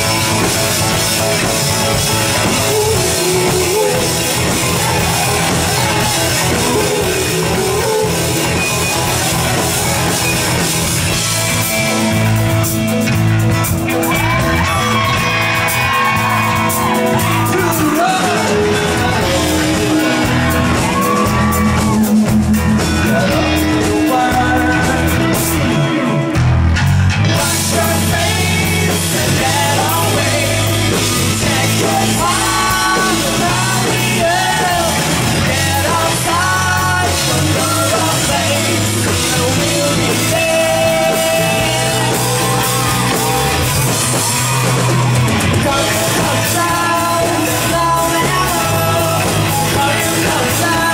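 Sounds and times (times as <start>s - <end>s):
person singing: 0.0s - 11.2s, 14.0s - 26.4s, 27.2s - 50.9s
rock band playing live: 0.0s - 50.9s.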